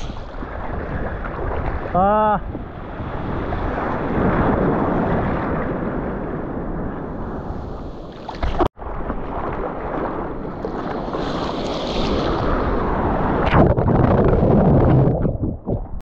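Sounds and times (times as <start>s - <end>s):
waves and surf: 0.0s - 14.8s
wind buffeting microphone: 0.0s - 16.0s.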